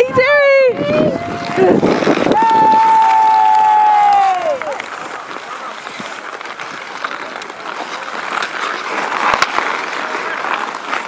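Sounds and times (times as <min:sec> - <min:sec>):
skate blades scraping ice: 0:00.0 - 0:11.0
hockey sticks and puck clacking: 0:01.3 - 0:11.0.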